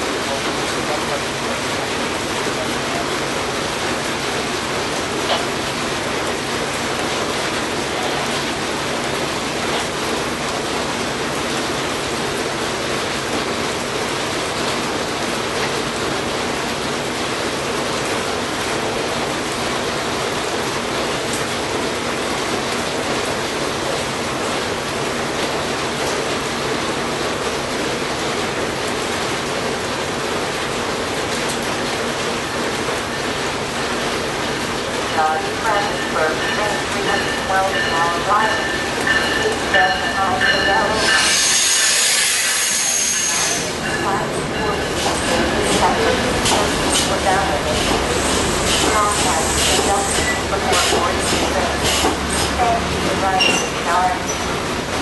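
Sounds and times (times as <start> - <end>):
heavy rain falling: 0.0 - 42.0, 42.9 - 55.0.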